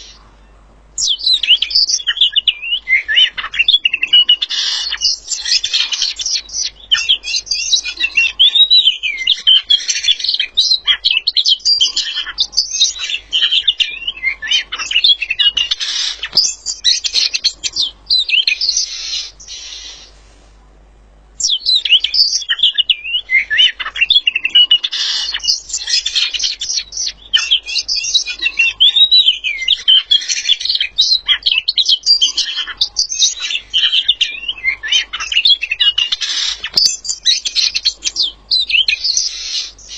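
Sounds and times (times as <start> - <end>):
songbird warbling: 0.0 - 20.2, 21.4 - 39.9.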